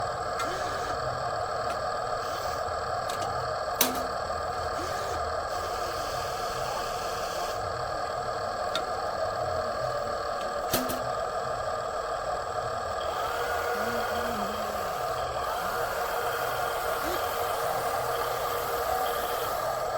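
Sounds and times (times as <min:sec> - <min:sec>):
mechanical whirring hum: 0:00.0 - 0:19.9.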